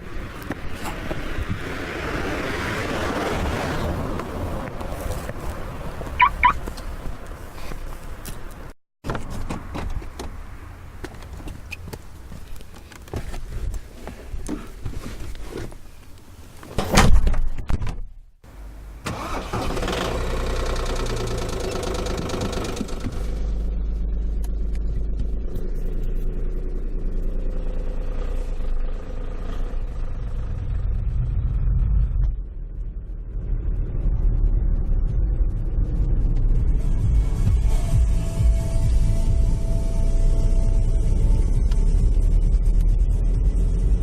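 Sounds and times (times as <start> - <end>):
car engine starting and running: 0.0 - 16.3, 18.4 - 44.0.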